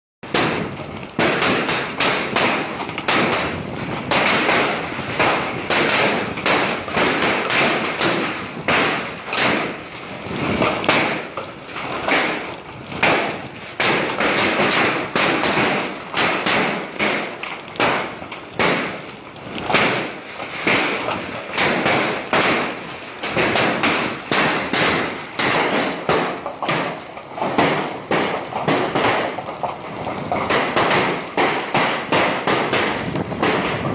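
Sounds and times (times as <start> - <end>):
hailstones clattering: 0.2 - 33.9.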